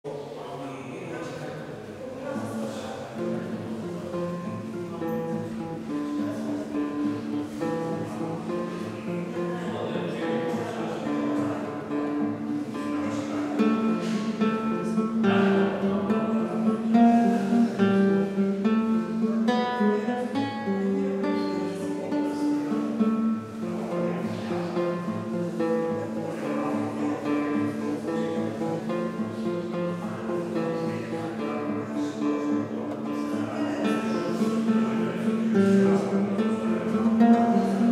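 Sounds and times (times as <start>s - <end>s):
fingerpicked nylon-string guitar: 1.1s - 37.9s.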